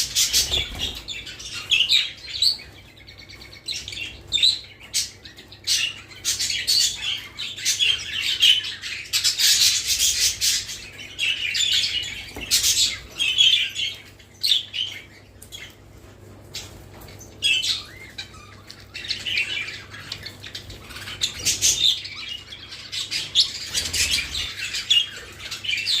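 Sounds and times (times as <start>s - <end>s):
budgerigars chattering and chirping: 0.0s - 15.9s, 16.5s - 26.0s.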